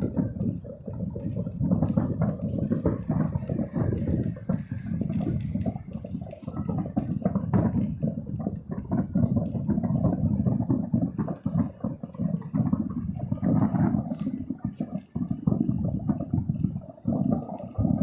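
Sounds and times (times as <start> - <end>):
fireworks booms and crackles: 0.0 - 18.0.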